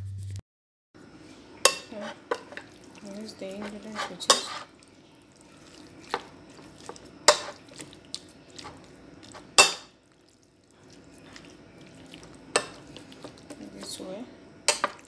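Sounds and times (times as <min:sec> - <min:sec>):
wet stirring of meat: 0:01.3 - 0:15.0.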